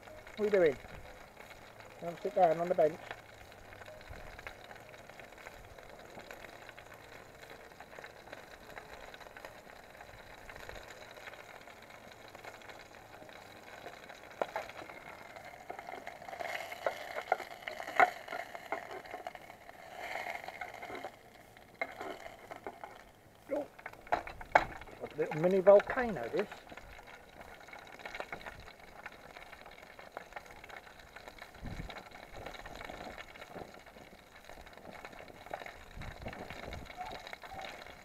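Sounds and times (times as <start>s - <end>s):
food sizzling in a tin: 0.0s - 38.0s.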